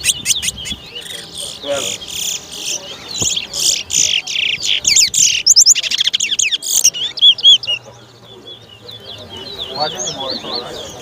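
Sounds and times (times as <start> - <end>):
finch singing chirps and trills: 0.0 - 11.0.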